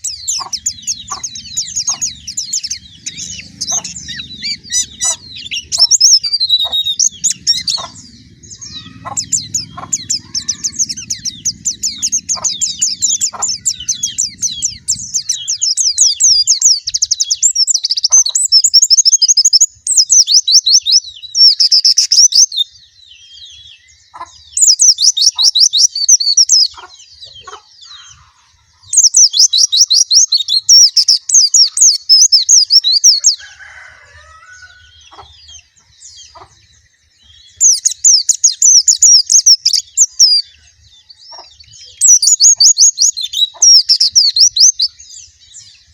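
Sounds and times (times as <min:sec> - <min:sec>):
bird twittering: 0:00.0 - 0:45.9.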